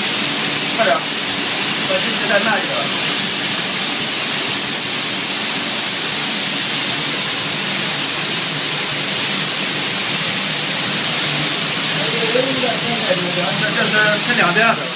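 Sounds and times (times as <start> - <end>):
spray guns hissing: 0.0 - 14.9.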